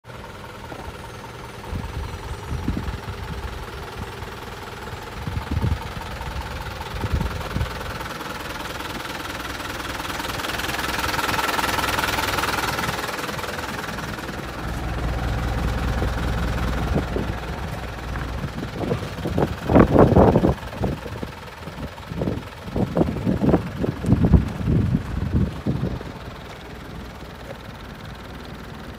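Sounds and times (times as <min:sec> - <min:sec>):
diesel engine idling clatter: 0:00.0 - 0:28.9.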